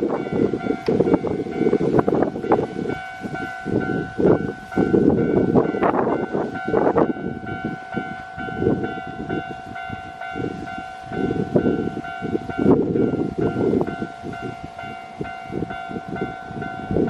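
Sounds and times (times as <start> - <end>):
level-crossing alarm ringing: 0.0 - 17.0
train wheels rumbling and knocking: 0.0 - 17.0.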